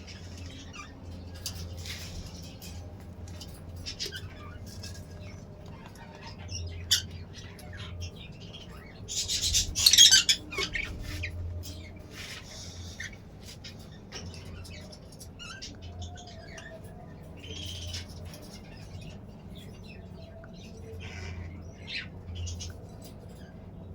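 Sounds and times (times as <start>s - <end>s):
budgerigars chirping and squawking: 0.0s - 23.5s.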